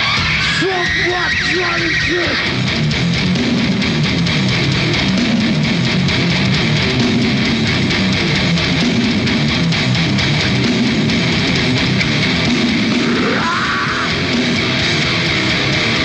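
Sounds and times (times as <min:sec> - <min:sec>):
bass guitar: 0:00.0 - 0:16.0
distorted electric guitar riff: 0:00.0 - 0:16.0.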